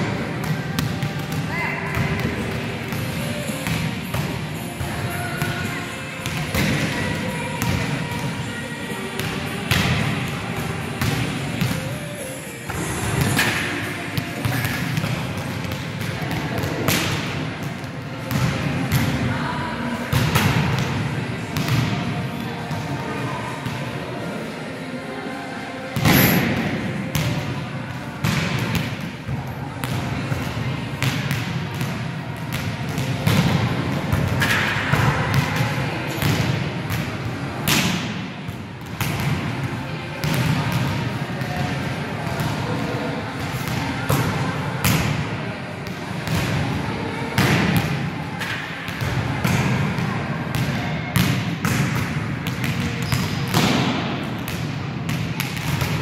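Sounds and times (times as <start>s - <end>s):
volleyballs struck and bouncing: 0.0s - 19.3s, 19.9s - 23.0s, 26.0s - 45.2s, 45.8s - 56.0s.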